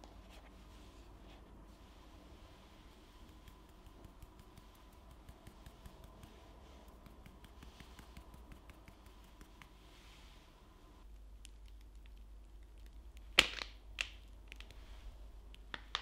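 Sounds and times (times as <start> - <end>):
soft sifting hiss: 0.0 - 13.4, 14.3 - 16.0.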